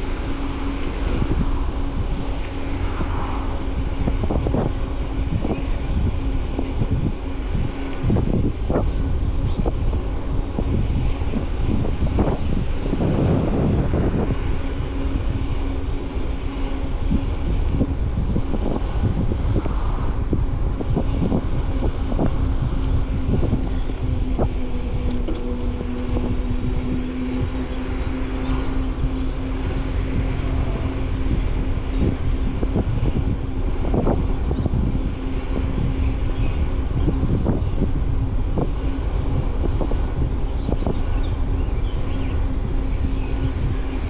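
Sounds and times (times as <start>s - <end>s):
steady hum: 0.0s - 44.0s
wind buffeting microphone: 0.0s - 44.0s.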